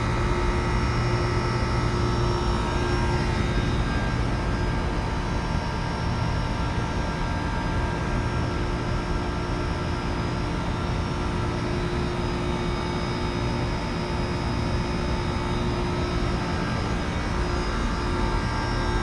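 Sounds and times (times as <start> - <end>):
compressor hum: 0.0 - 19.0
steady whining tones: 0.0 - 19.0.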